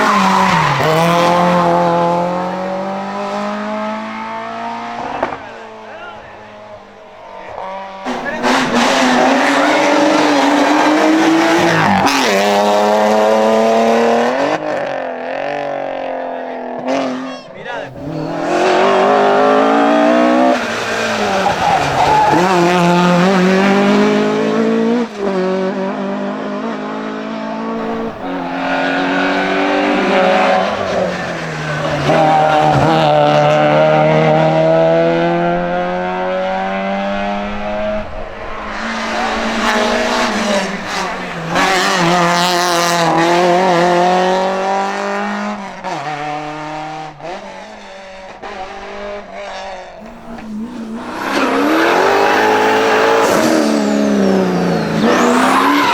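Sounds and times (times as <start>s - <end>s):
racing car engine accelerating: 0.0s - 55.9s.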